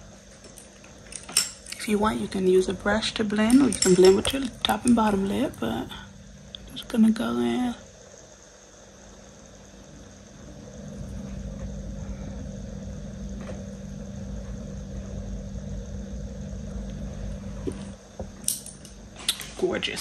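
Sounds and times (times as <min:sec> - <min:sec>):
faint constant hum: 0:00.0 - 0:20.0
low steady rumble: 0:00.0 - 0:20.0.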